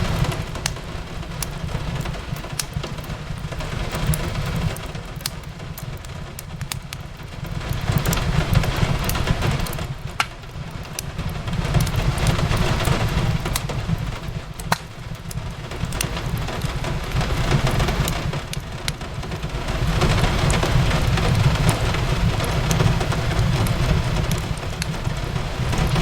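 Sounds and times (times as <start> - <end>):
sharp pops from fire: 0.0 - 19.2, 20.3 - 26.0
fireplace crackling: 0.0 - 26.0
rain on a window: 0.0 - 26.0.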